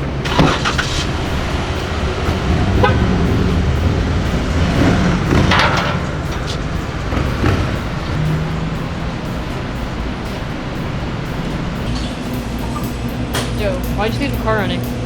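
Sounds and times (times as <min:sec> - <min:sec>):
car engine running: 0:00.0 - 0:14.9
background music: 0:00.0 - 0:15.0.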